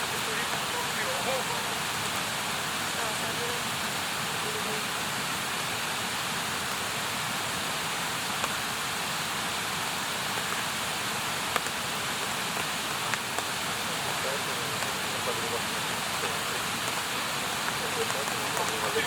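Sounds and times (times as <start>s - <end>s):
campfire popping: 0.0s - 4.9s, 8.0s - 19.0s
rushing hiss: 0.0s - 19.0s.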